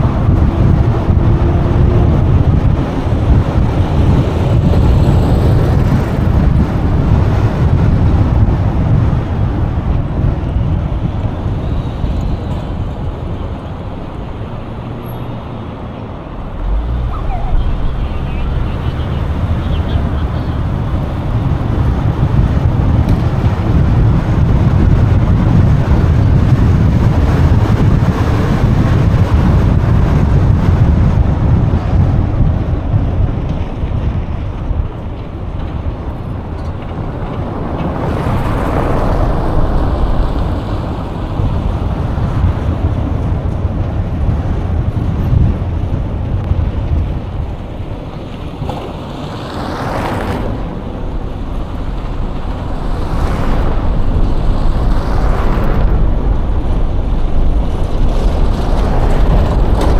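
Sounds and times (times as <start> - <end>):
traffic road and wind noise: 0.0 - 59.9.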